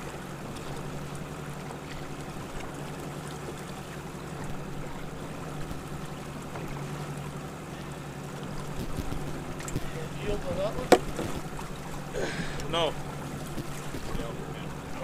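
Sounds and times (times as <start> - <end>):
boat motor humming: 0.0 - 15.0
water rushing along hull: 0.0 - 15.0.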